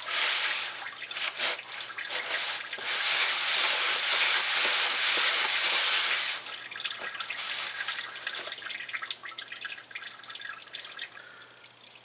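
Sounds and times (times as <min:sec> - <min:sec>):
oil pouring into drain pan: 0:00.0 - 0:12.0
oil dribbling and dripping: 0:00.8 - 0:02.9, 0:04.2 - 0:12.0.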